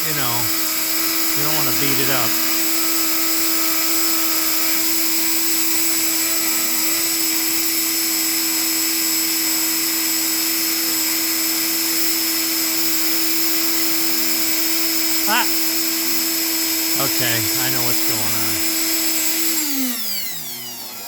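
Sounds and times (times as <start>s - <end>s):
rotary tool high-pitched whine: 0.0s - 21.0s.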